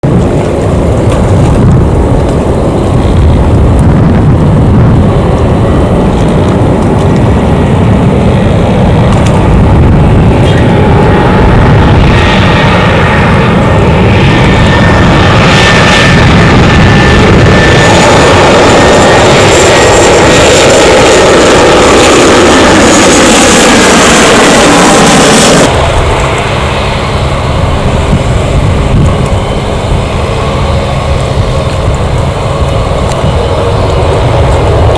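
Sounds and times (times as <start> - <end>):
high jet engine whine: 0.0 - 34.9
jet engines roaring: 0.0 - 34.9
wind on microphone: 0.0 - 34.9.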